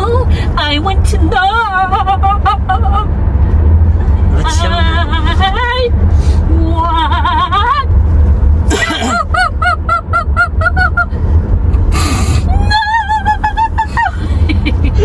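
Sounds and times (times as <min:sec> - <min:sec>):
low rumble of moving car: 0:00.0 - 0:15.0.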